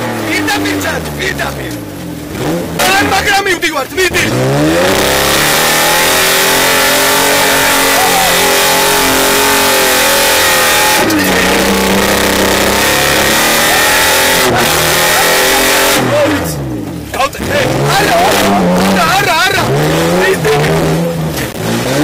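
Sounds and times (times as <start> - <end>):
vehicle engine revving high: 0.0 - 22.0.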